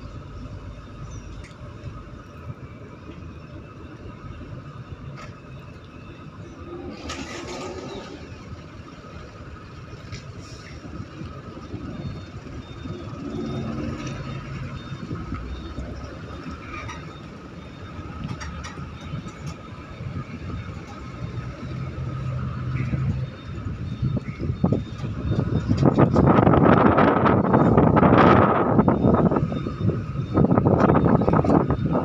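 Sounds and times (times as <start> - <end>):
low ship engine rumble: 0.0 - 32.0.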